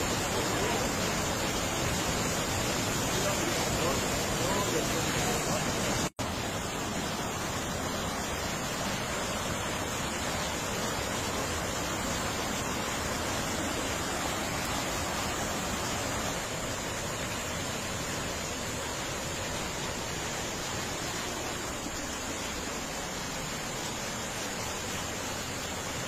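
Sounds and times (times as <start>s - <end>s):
rushing creek in flood: 0.0s - 26.0s.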